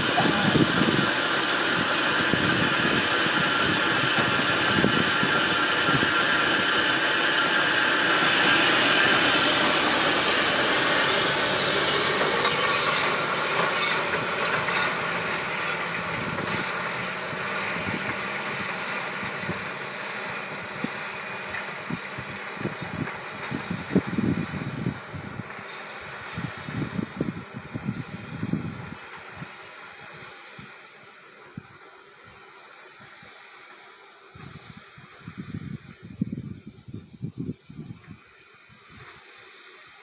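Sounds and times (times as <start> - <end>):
tractor running: 0.0 - 32.7.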